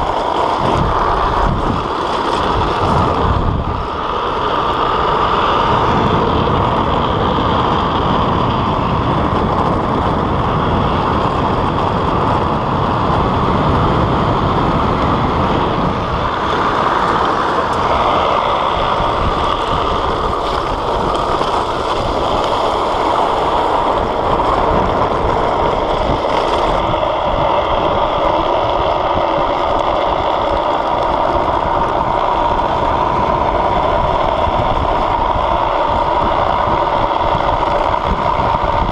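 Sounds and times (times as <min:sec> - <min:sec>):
wheels rolling on asphalt: 0:00.0 - 0:38.9
wind on microphone: 0:00.0 - 0:38.9.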